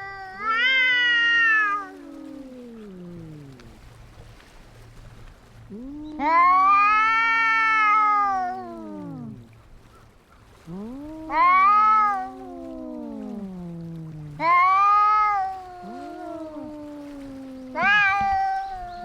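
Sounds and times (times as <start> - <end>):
cats caterwauling: 0.0 - 3.9, 5.7 - 9.6, 10.6 - 19.0.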